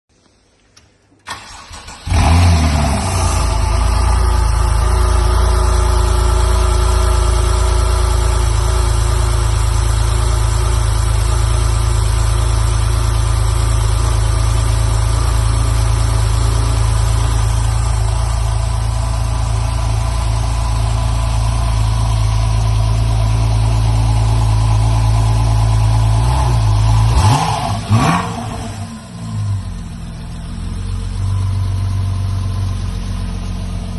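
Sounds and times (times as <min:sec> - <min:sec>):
car engine starting and idling: 0:00.6 - 0:33.9
car engine revving: 0:01.3 - 0:33.9.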